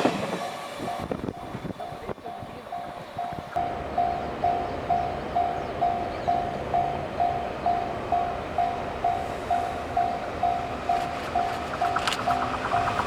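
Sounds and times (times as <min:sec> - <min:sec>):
train rumbling: 0:00.0 - 0:13.0
level crossing bell ringing: 0:00.4 - 0:12.0.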